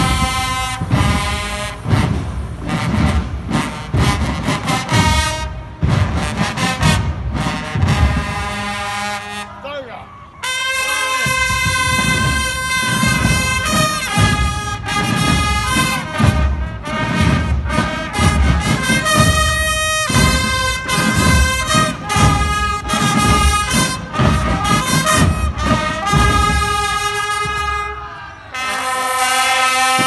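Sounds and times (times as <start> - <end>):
steady drum beat: 0.0 - 8.8, 10.7 - 28.0
marching band brass: 0.0 - 30.0.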